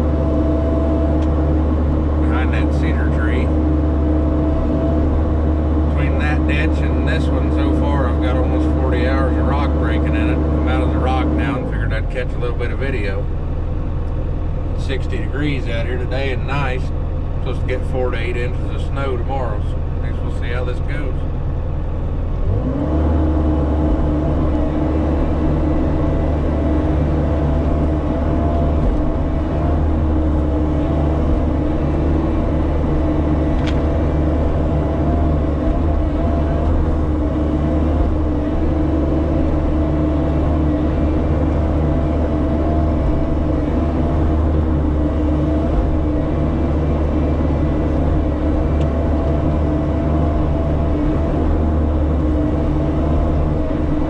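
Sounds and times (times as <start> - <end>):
excavator diesel engine running: 0.0 - 54.0
steady humming tone: 0.0 - 54.0.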